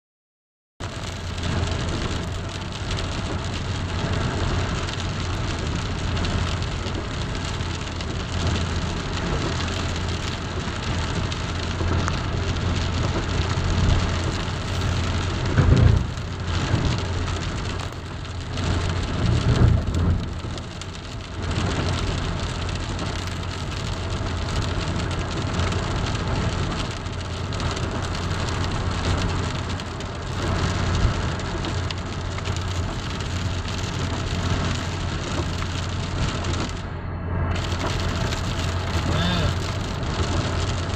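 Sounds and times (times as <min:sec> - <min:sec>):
constant low rumble: 0:00.8 - 0:40.9
rain falling on surfaces: 0:00.8 - 0:40.9.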